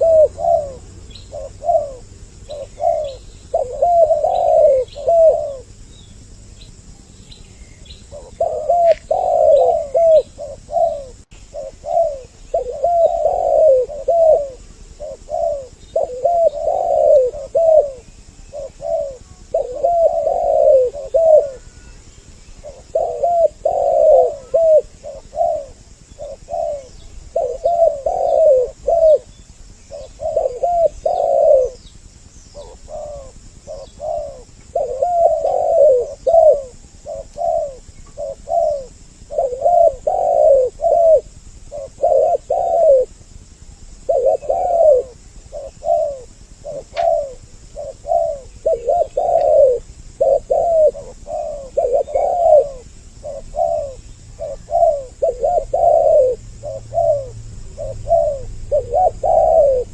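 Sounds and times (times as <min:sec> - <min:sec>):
doves cooing: 0:00.0 - 0:59.9
faint high bird chirps: 0:00.0 - 0:59.9.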